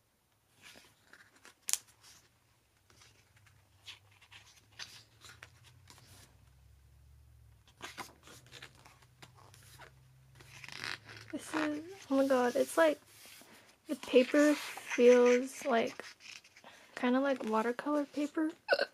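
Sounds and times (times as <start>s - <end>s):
paper pages turning: 0.6s - 6.3s, 7.7s - 18.3s.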